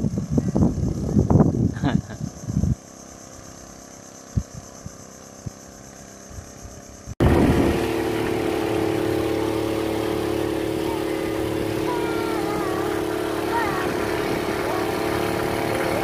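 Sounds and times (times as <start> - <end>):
boat motor running: 2.8 - 16.0.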